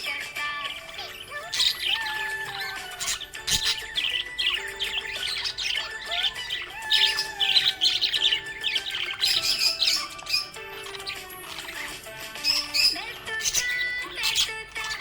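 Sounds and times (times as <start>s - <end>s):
background music with held tones: 0.0s - 15.0s
budgies chirping and warbling: 0.0s - 15.0s.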